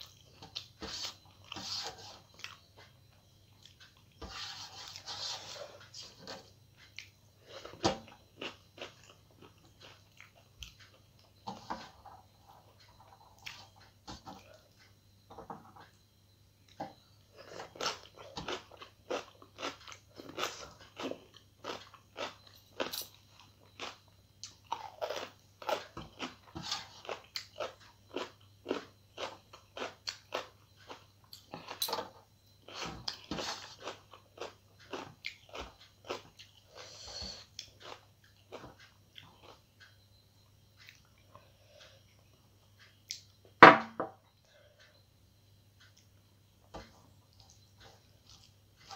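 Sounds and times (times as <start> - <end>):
person chewing crunchy food: 0.0 - 15.2, 16.7 - 31.9, 32.5 - 40.2, 47.3 - 48.9.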